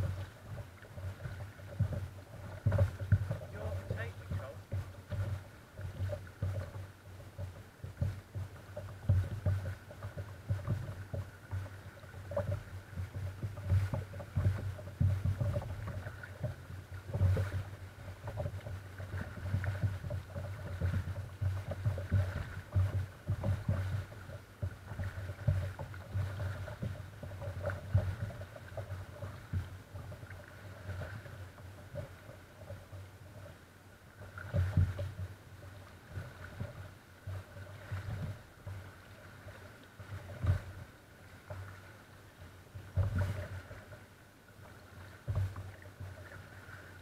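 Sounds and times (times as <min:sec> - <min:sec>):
paddle splashes: 0:00.0 - 0:47.0
water slapping against hull: 0:00.0 - 0:47.0.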